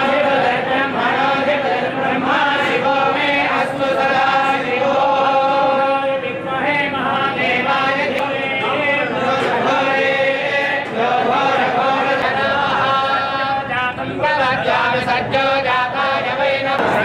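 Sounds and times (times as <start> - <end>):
priests chanting in unison: 0.0 - 17.0.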